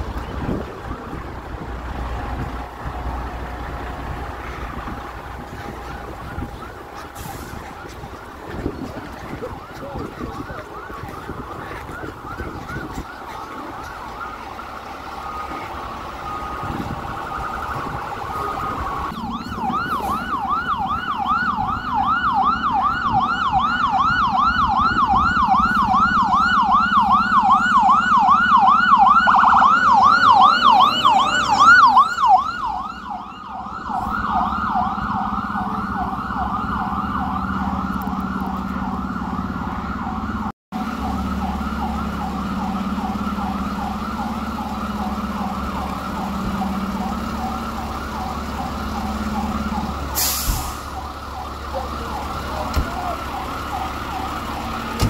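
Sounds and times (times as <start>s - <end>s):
emergency vehicle siren: 0.0s - 55.0s.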